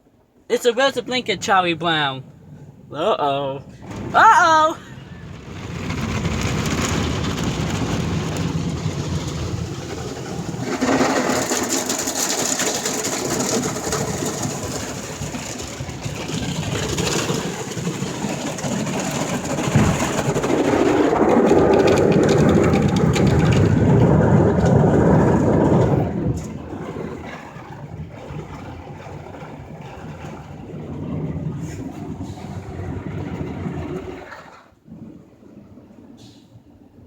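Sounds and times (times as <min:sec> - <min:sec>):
car wash brushes and water swishing: 0:00.0 - 0:37.0.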